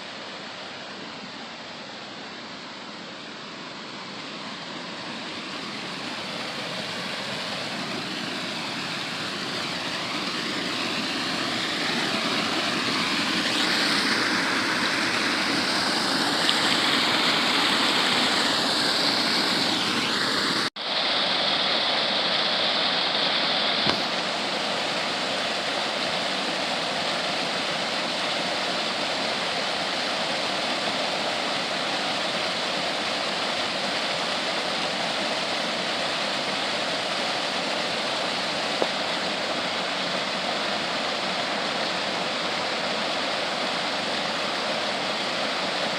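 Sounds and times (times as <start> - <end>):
rushing water of stream: 0.0 - 45.9.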